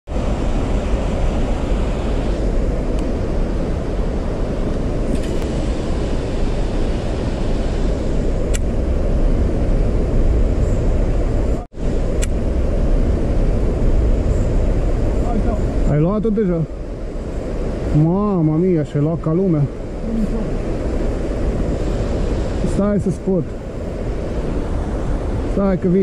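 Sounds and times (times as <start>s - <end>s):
wind buffeting microphone: 0.1s - 26.0s.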